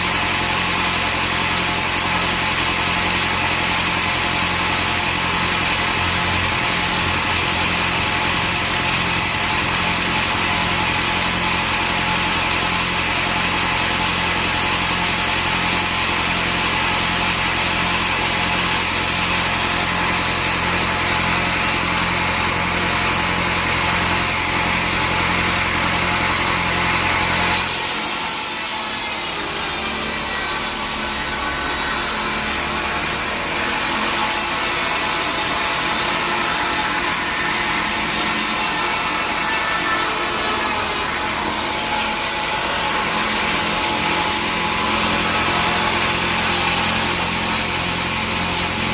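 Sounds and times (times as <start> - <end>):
saw cutting through a log: 0.0 - 48.9.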